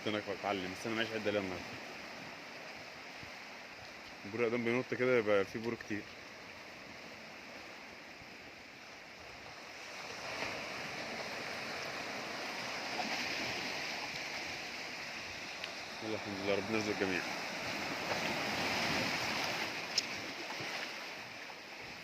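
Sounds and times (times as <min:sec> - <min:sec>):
sea waves washing onto shore: 0:00.0 - 0:22.0.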